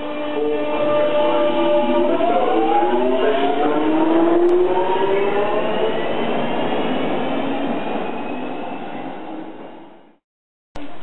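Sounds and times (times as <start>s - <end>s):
rail noise: 0.0s - 10.2s.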